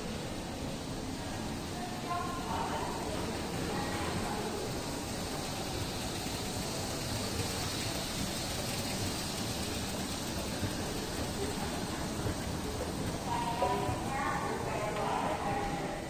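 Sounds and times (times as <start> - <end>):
store interior background noise: 0.0 - 16.0.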